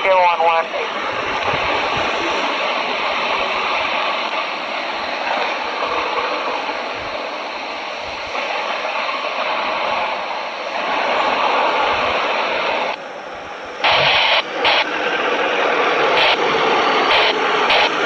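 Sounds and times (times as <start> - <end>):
distant jet engines rushing: 0.0 - 18.0.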